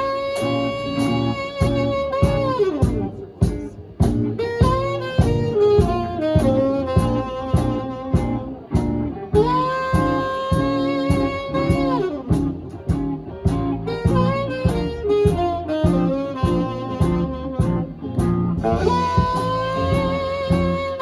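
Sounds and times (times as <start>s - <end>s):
horn playing melody: 0.0s - 21.0s
steady drum beat: 0.0s - 21.0s.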